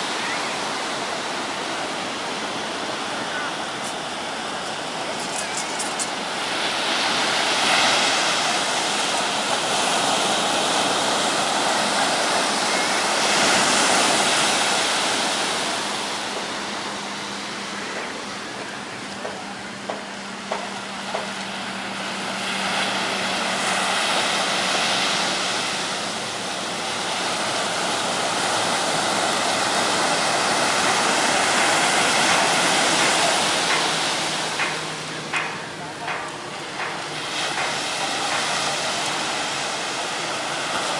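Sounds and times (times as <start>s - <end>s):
waves breaking on beach: 0.0s - 40.9s.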